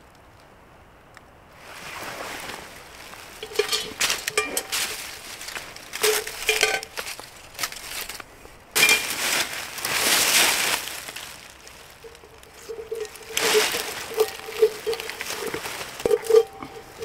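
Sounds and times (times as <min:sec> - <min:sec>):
crunching and rustling handling: 0:01.6 - 0:17.0.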